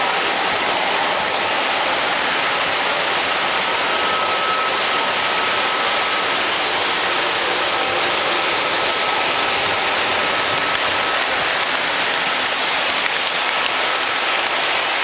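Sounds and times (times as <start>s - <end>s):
model trains whirring and rattling: 0.0s - 15.0s.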